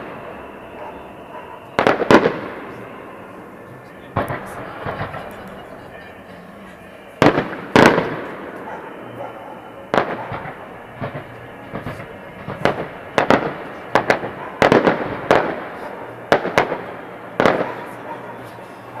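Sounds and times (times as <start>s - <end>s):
firework shells bursting: 0.0s - 9.0s, 9.8s - 18.0s.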